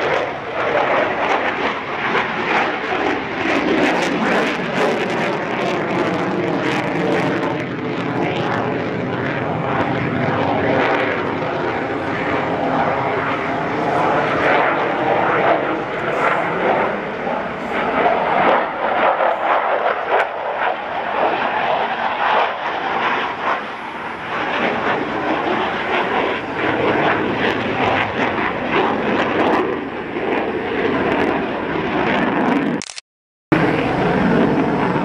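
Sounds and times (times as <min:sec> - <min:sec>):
jet engine rumble overhead: 0:00.0 - 0:32.8, 0:33.5 - 0:35.0.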